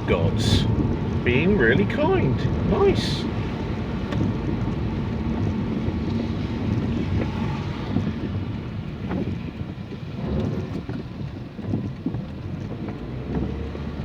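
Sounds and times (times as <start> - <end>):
car driving on wet road: 0.0 - 14.0.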